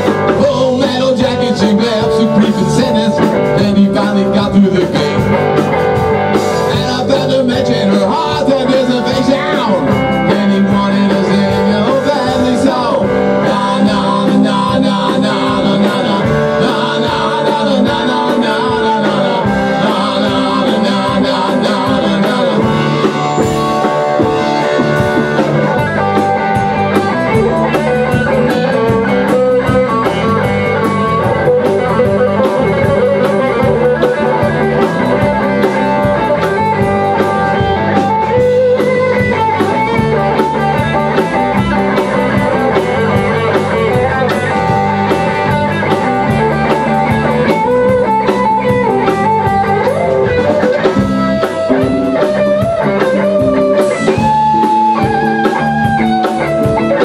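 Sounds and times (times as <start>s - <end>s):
drum kit: 0.0s - 57.0s
electric bass: 0.0s - 57.0s
electric guitar: 0.0s - 57.0s.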